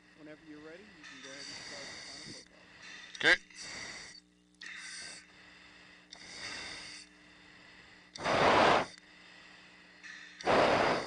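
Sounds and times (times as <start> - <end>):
breathing through oxygen mask: 0.8 - 11.0.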